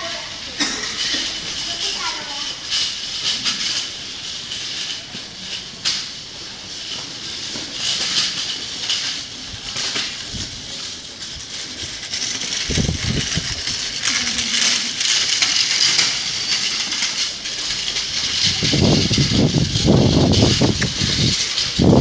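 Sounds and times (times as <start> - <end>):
rustling handling noise: 0.0 - 22.0.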